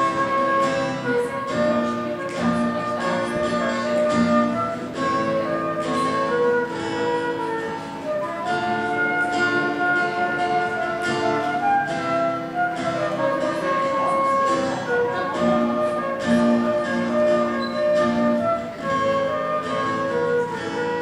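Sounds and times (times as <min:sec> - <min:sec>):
flute-like melody: 0:00.0 - 0:21.0
plucked guitar: 0:00.0 - 0:21.0.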